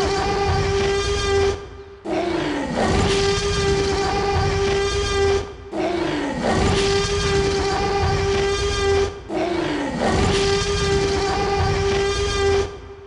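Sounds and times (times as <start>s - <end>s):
dinosaur roar sound effect: 0.0s - 12.8s.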